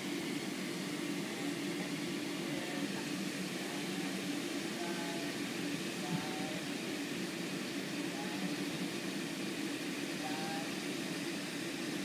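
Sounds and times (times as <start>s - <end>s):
electric blower fan humming: 0.0s - 12.0s.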